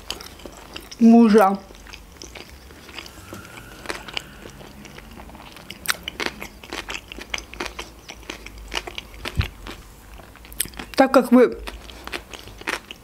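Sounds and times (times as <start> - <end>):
person chewing: 0.0 - 1.0, 1.6 - 11.0, 11.6 - 13.0.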